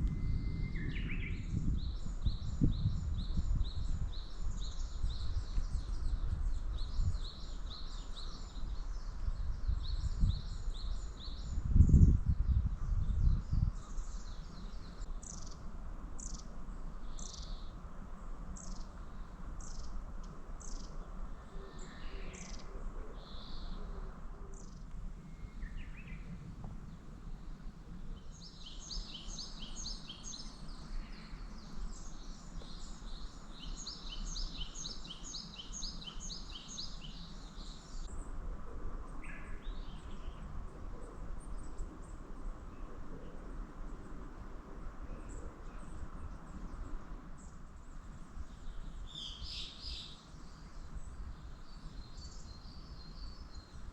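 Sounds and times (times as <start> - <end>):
low outdoor background hum: 0.0 - 53.9
small songbirds chirping: 0.0 - 53.9.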